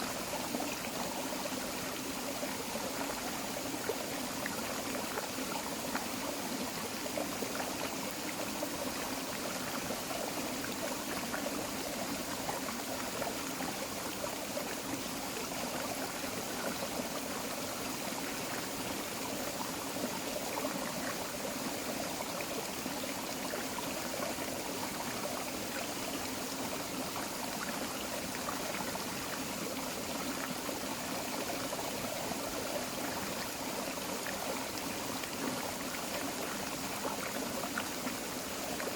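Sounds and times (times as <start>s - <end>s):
creek water babbling: 0.0s - 38.9s.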